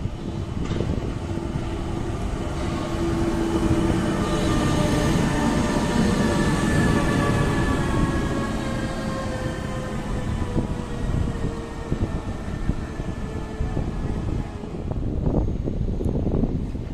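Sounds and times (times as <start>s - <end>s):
train whining tones: 0.0s - 16.6s
train rumble: 0.0s - 16.9s.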